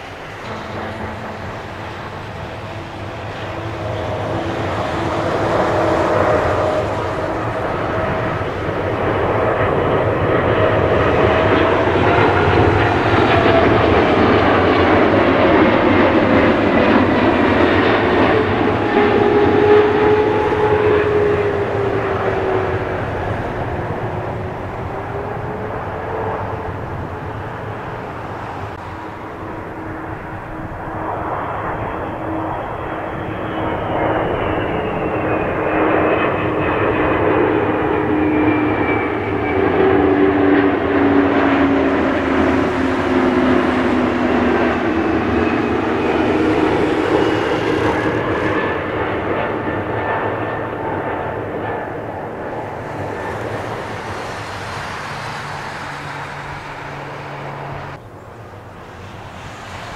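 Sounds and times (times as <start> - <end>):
jet airliner passing: 0.0 - 59.9
whining jet engine tones: 0.0 - 59.9.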